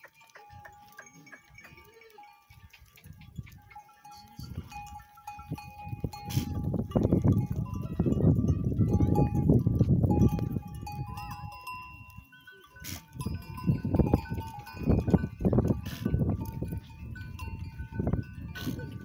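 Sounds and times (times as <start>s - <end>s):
goat bells clanking: 0.0s - 19.0s.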